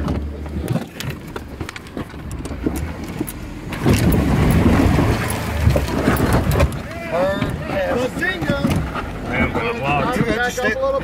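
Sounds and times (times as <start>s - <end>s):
car engine pulling under load: 0.0s - 11.0s.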